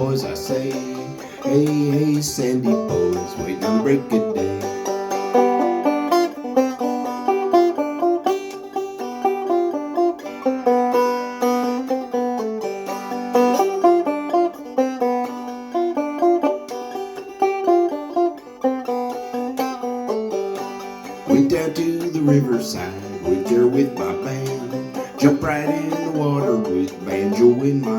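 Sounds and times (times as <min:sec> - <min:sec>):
banjo playing plucked melody: 0:00.0 - 0:27.9.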